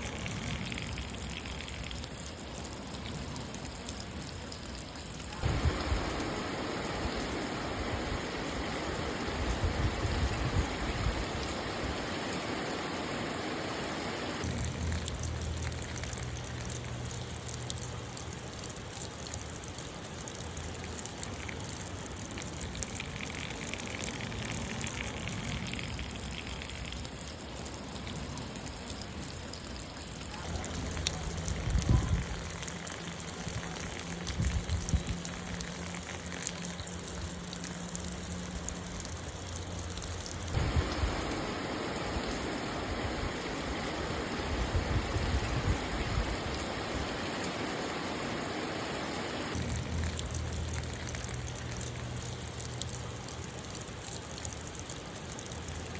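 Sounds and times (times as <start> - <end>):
light rain falling: 0.0 - 55.9.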